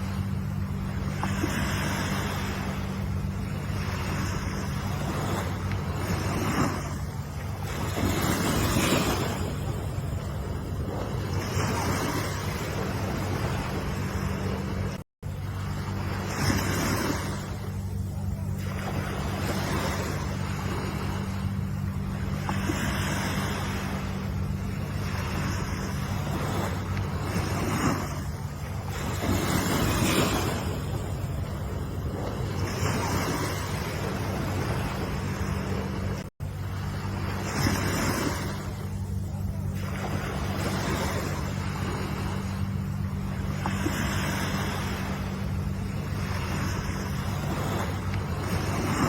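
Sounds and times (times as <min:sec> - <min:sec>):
low rumble: 0:00.0 - 0:49.0
ocean surf washing: 0:00.0 - 0:49.0
steady low hum: 0:00.0 - 0:49.0.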